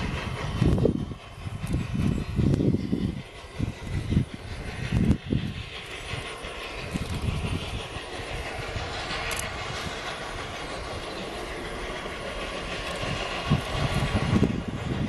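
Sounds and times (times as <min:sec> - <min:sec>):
high steam hiss: 0:00.0 - 0:15.0
steam locomotive running on rails: 0:00.0 - 0:15.0.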